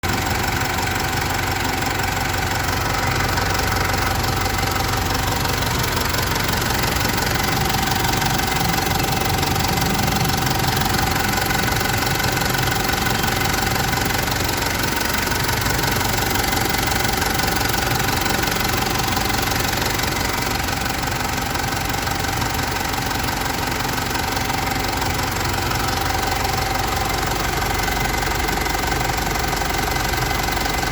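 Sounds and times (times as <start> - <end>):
engine idling with knocking clatter: 0.0 - 30.9.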